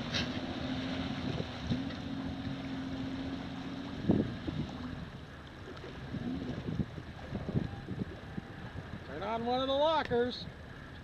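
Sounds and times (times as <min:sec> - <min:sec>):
wind on microphone: 0:00.0 - 0:09.5.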